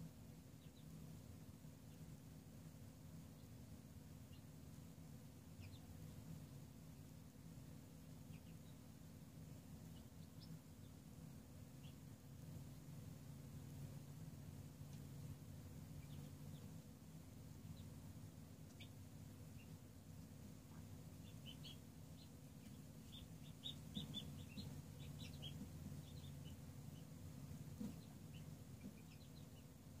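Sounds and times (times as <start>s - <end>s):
steady low hum: 0.0s - 30.0s
chicks peeping: 0.3s - 30.0s.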